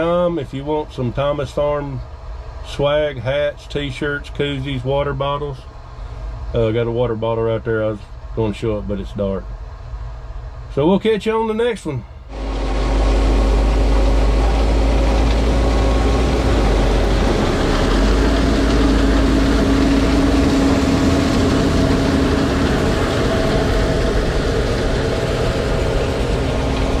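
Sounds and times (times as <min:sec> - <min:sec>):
diesel engine rumbling: 0:00.0 - 0:27.0.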